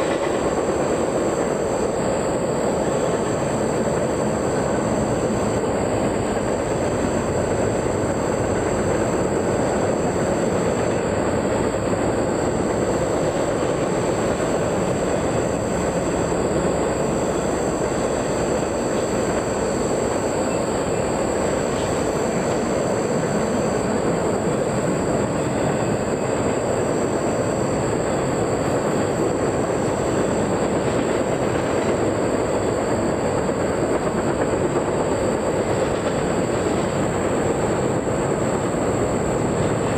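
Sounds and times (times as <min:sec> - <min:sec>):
train wheels rushing on rails: 0:00.0 - 0:39.9.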